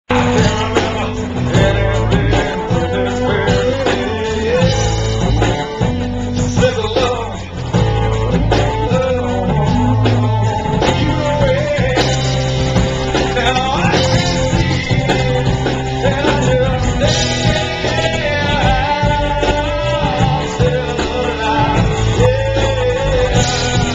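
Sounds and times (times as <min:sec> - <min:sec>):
pop-rock music over sound system: 0:00.1 - 0:23.9.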